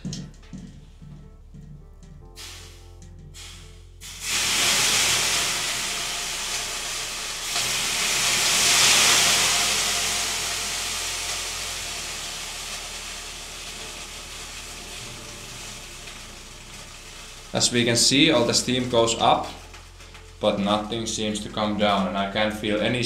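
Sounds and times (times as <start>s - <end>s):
water hissing on hot stones: 2.4s - 2.8s, 3.4s - 23.0s.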